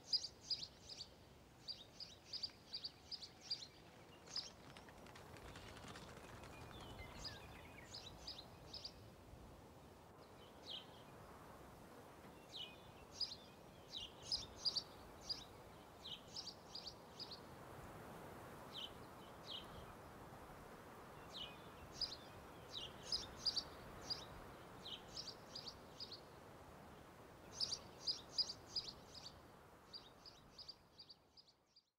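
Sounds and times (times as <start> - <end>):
small songbirds chirping: 0.0 - 9.1, 10.1 - 11.5, 12.3 - 17.7, 18.5 - 31.9
outdoor ambience hiss: 0.0 - 31.9.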